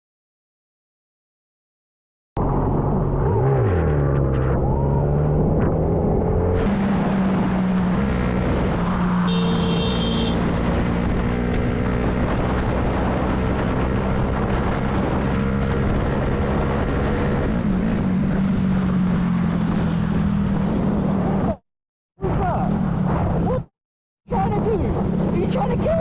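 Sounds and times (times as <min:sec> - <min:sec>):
vehicle engine and road noise: 0:02.4 - 0:21.6, 0:22.2 - 0:23.7, 0:24.3 - 0:26.0.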